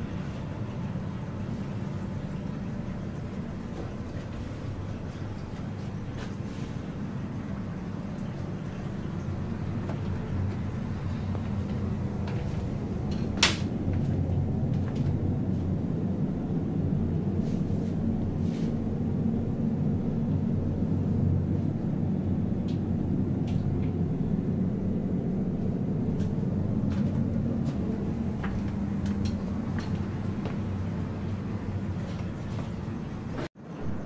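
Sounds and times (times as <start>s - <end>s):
train coach rumble and hum: 0.0s - 34.0s.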